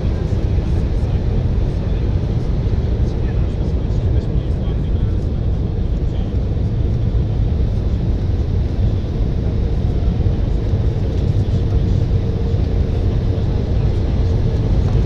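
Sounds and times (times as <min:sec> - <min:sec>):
jet cabin rumble: 0:00.0 - 0:15.0.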